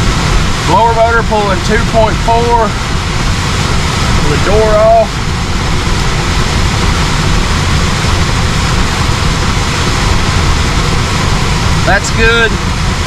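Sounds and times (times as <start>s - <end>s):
air handler blower rushing air: 0.0s - 13.0s.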